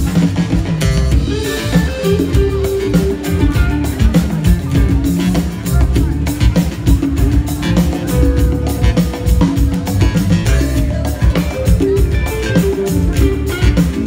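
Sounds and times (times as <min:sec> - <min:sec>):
drum kit: 0:00.0 - 0:14.0
hand drums: 0:00.0 - 0:14.0.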